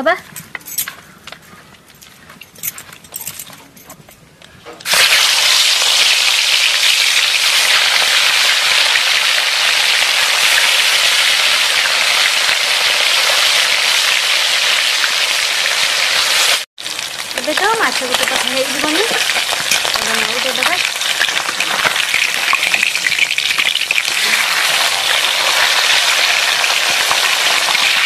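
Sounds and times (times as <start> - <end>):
fish frying in hot oil: 4.9 - 28.0.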